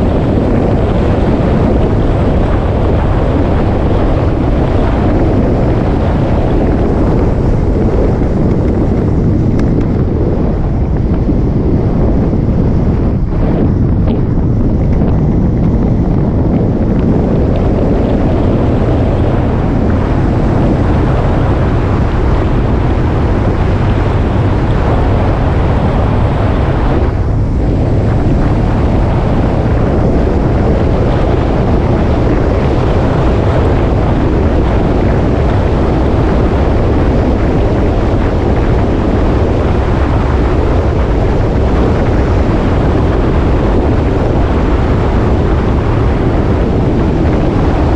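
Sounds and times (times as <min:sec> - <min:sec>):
motorcycle engine running: 0:00.0 - 0:47.9
wind rushing over microphone: 0:00.0 - 0:47.9.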